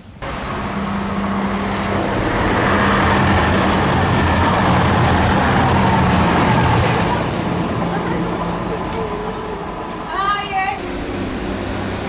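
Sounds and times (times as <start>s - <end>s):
train wheels rushing on rail: 0.0s - 12.0s
diesel engine drone: 0.2s - 10.1s, 10.8s - 12.0s.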